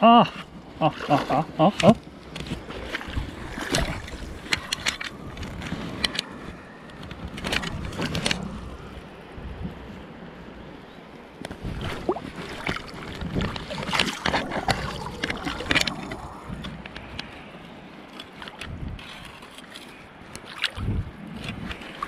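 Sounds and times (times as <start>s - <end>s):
river water splashing: 0.2s - 22.0s
wind rumble on microphone: 1.4s - 19.5s, 20.1s - 22.0s.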